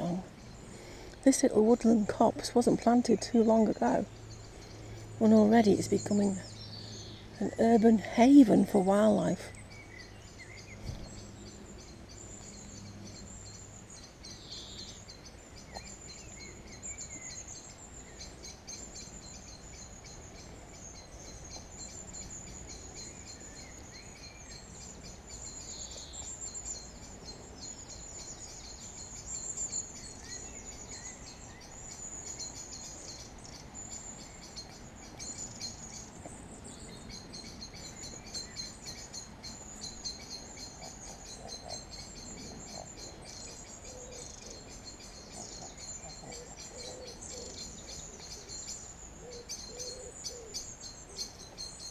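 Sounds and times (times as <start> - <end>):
distant traffic rumble: 0.0 - 51.9
birds chirping and whistling: 9.2 - 51.9.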